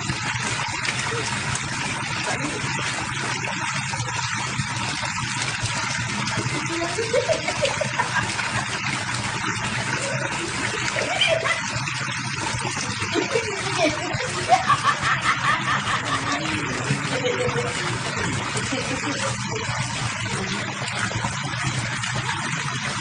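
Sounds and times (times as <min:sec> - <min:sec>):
running water splashing: 0:00.0 - 0:23.0.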